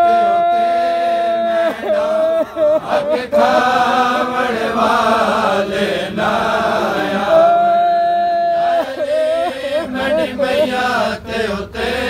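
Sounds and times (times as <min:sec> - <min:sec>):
men chanting in unison: 0:00.0 - 0:12.0
person reciting: 0:00.0 - 0:12.0.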